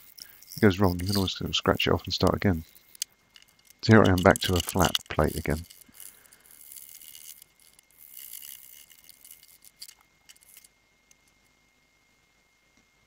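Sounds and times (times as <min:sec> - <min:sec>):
blade scraping plastic: 0:00.0 - 0:10.7.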